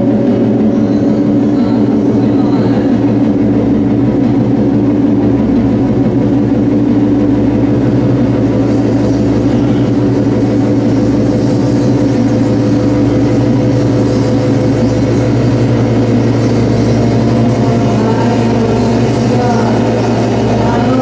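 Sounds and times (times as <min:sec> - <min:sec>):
loud electronic noise drone: 0:00.0 - 0:21.0.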